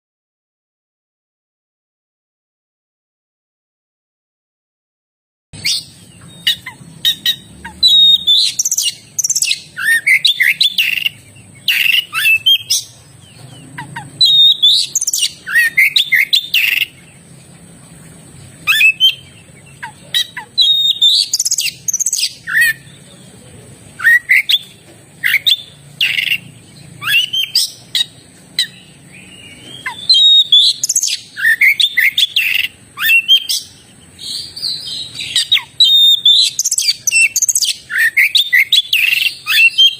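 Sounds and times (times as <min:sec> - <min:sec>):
magpie-robin singing: 0:05.6 - 0:39.9.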